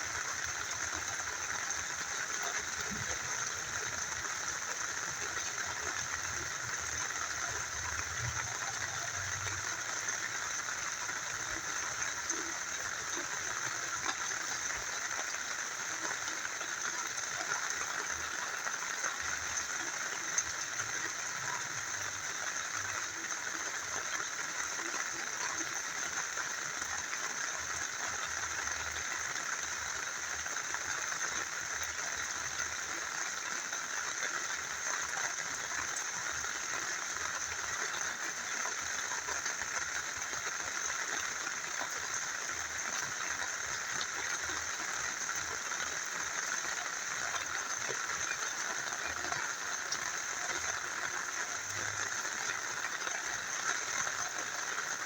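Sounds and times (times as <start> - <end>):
small river flowing: 0.0 - 55.0
steady rain falling: 0.0 - 55.0.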